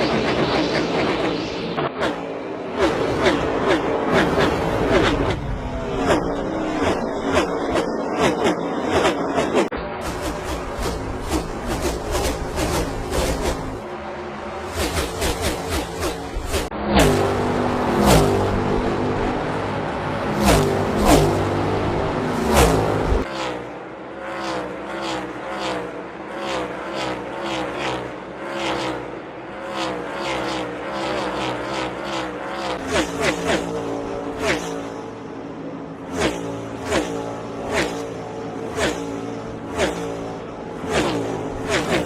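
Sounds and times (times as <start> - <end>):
race car engines passing: 0.0 - 42.0.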